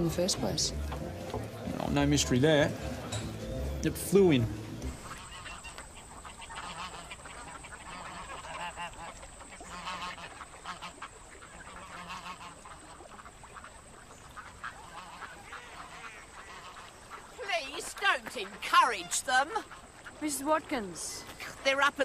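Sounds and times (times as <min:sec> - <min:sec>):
waterbirds quacking and honking: 0:00.0 - 0:22.0.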